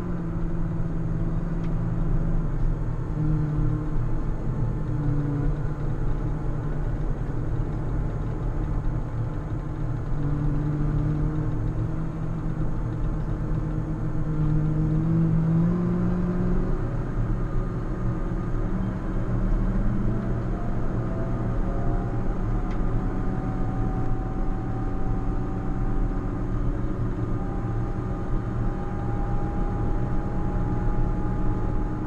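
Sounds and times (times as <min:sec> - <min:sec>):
steady low rumble: 0:00.0 - 0:32.0
tractor diesel engine under load: 0:00.0 - 0:32.0.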